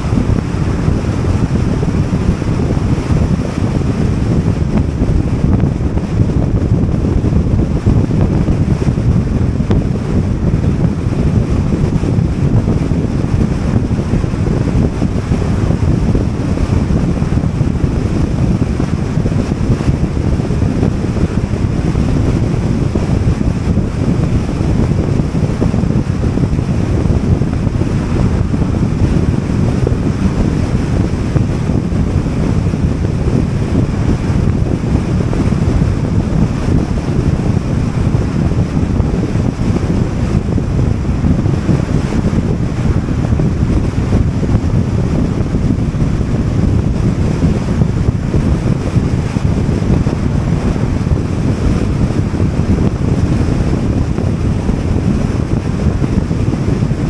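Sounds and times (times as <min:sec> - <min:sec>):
car wind and road rumble: 0:00.0 - 0:57.0.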